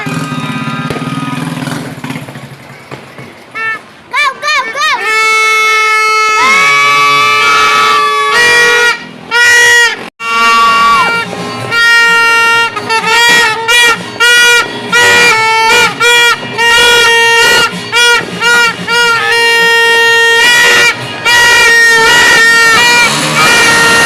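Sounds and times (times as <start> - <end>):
buzzy horn toots: 0.0 - 1.8, 5.0 - 24.0.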